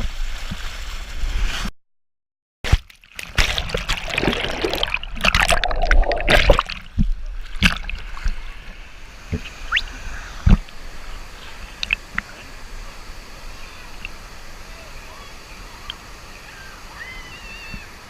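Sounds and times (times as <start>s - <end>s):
water rushing and splashing: 2.7s - 18.0s.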